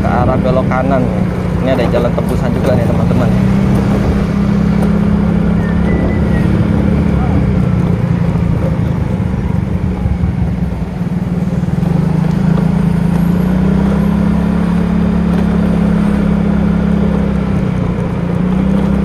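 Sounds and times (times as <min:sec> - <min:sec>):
motorbike engine running: 0:00.0 - 0:19.0
road noise: 0:00.0 - 0:19.0.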